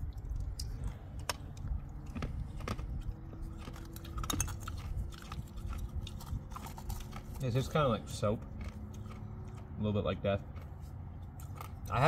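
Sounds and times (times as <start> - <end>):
chewing hard candy: 0.0 - 12.0.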